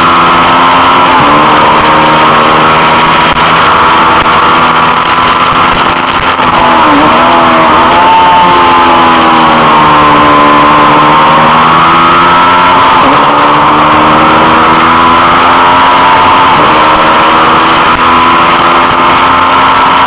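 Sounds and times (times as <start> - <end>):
motorcycle engine revving hard: 0.0 - 20.0.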